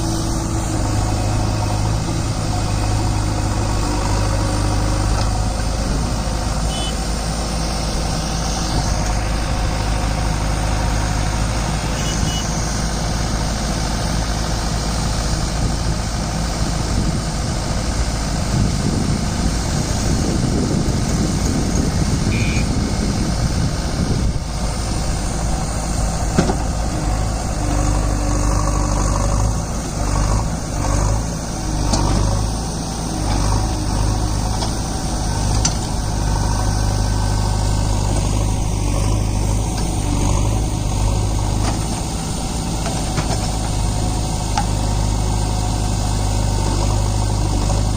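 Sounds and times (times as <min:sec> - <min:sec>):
backhoe diesel engine running: 0:00.0 - 0:47.9.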